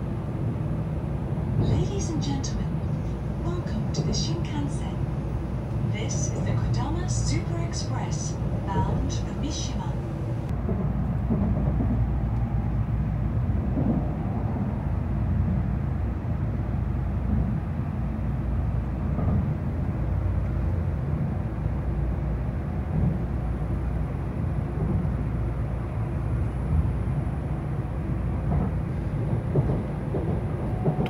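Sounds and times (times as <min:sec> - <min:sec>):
train interior low rumble: 0:00.0 - 0:31.0.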